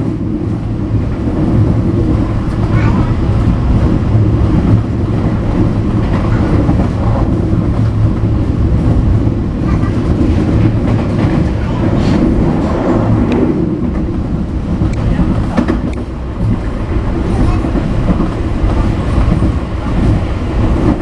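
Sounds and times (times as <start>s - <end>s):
train wheels rumbling on rails: 0.0s - 21.0s
faint rail clacks: 3.8s - 21.0s.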